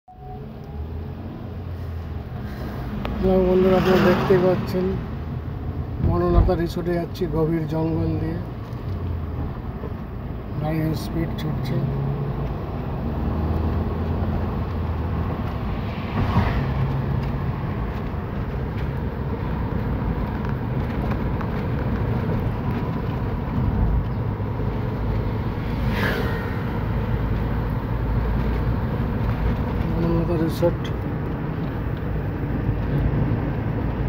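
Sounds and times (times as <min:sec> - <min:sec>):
car engine and tyre noise: 0:00.1 - 0:34.0.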